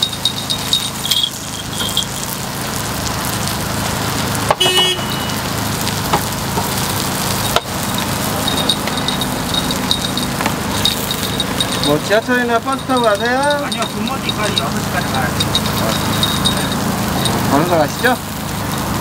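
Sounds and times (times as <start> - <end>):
batter sizzling on griddle: 0.0 - 19.0.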